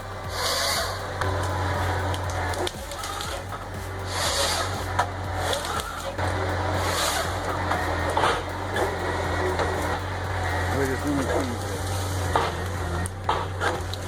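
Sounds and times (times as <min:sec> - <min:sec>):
harvester engine running: 0:00.0 - 0:14.0
harvester head working wood: 0:00.0 - 0:14.0.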